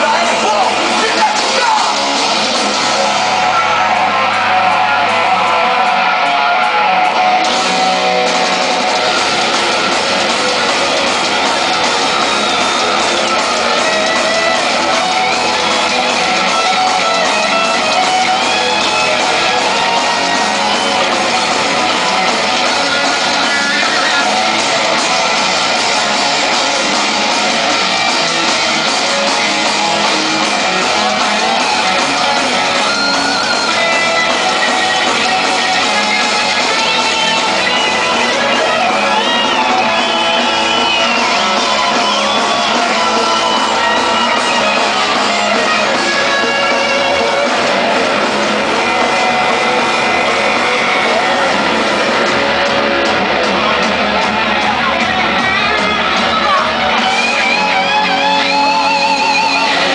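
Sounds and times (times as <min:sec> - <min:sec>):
electric guitars: 0:00.0 - 0:59.9
shouted singing: 0:00.0 - 0:59.9.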